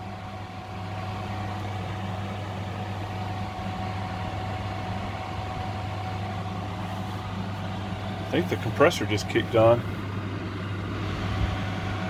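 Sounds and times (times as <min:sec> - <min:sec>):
air conditioner fan hum: 0:00.0 - 0:12.0
faint steady whine: 0:00.0 - 0:12.0.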